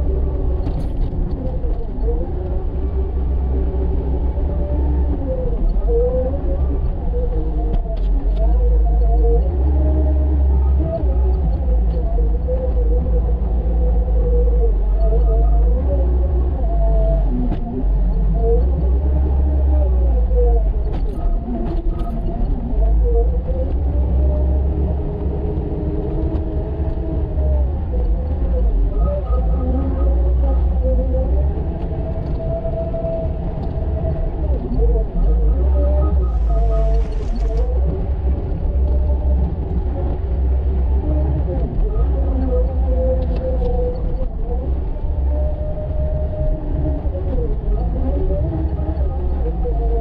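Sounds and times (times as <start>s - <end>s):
engine rumbling with whine: 0.0s - 50.0s.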